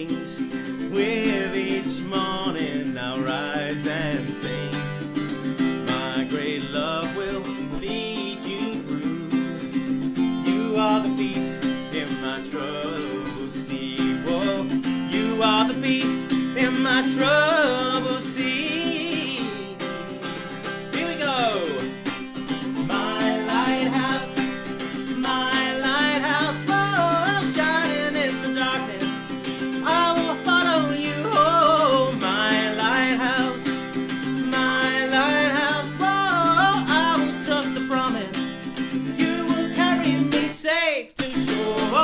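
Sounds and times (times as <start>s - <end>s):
man singing: 0.0s - 42.0s
strummed acoustic guitar: 0.0s - 42.0s.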